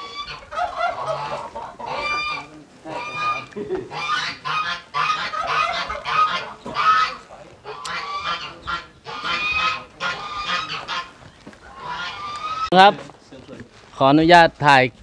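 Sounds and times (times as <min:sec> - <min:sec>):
geese honking: 0:00.0 - 0:12.9.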